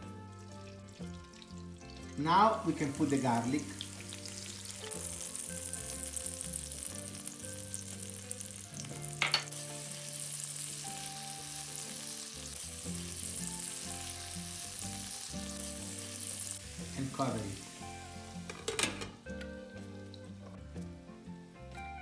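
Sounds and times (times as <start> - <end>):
garlic sizzling in oil: 0.0 - 20.5.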